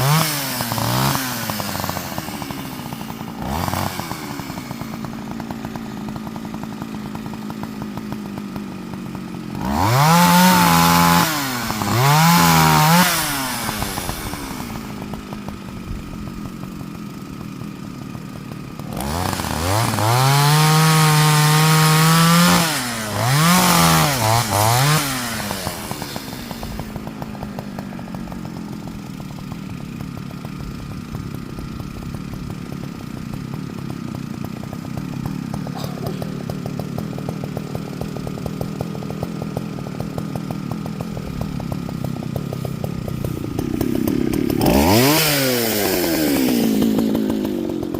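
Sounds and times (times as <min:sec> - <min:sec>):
chainsaw idling and revving: 0:00.0 - 0:47.9.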